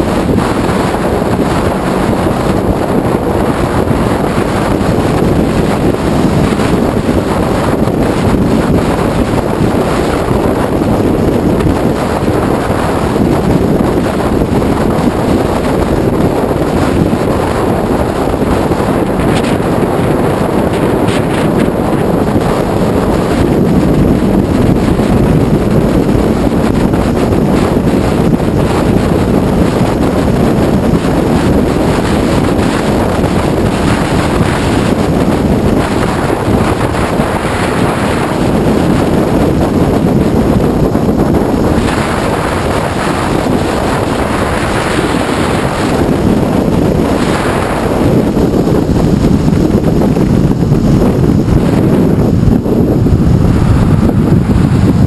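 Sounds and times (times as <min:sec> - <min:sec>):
motorcycle running and road noise: 0:00.0 - 0:55.0
wind buffeting microphone: 0:00.0 - 0:55.0.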